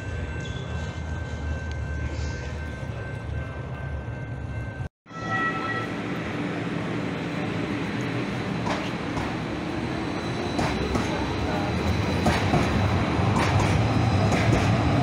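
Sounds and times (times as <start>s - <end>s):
light-rail car rumbling on track: 0.0s - 15.0s.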